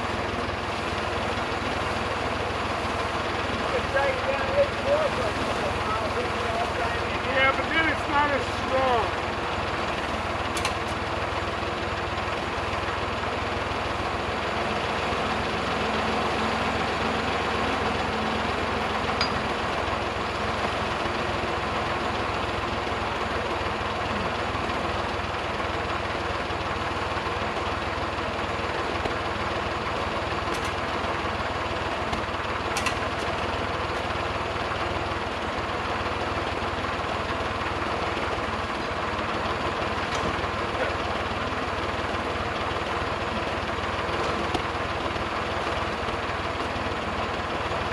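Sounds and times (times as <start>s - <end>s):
engine idling with low hum: 0.0s - 47.9s.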